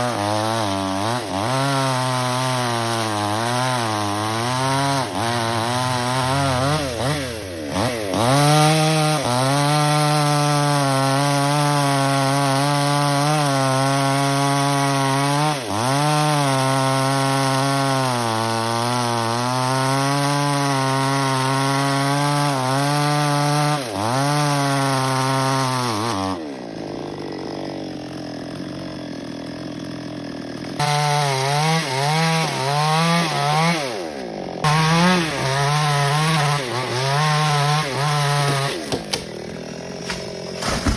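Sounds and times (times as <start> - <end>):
chainsaw cutting branches: 0.0 - 40.9.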